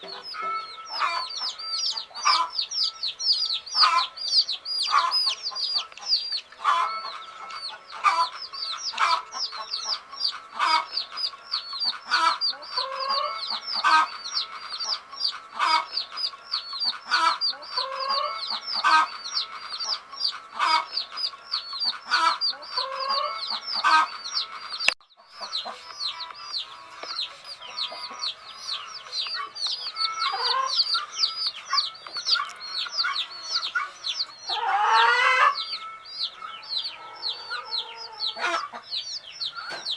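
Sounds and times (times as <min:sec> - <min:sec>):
baby chicks peeping: 0:00.0 - 0:39.9
louder lower chick calls: 0:00.0 - 0:39.9.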